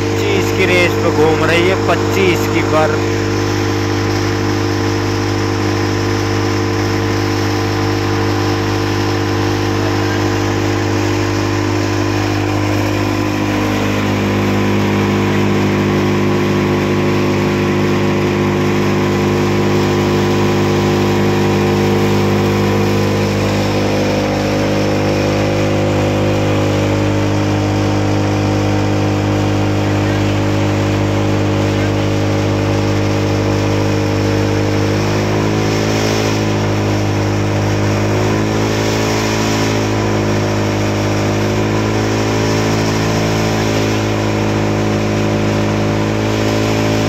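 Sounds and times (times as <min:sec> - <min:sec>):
thresher machine drone: 0:00.0 - 0:47.0.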